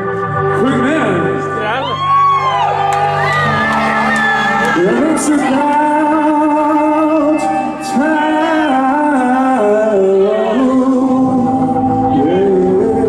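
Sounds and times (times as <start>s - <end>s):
live rock band playing: 0.0s - 13.0s
singer holding long notes: 0.4s - 13.0s.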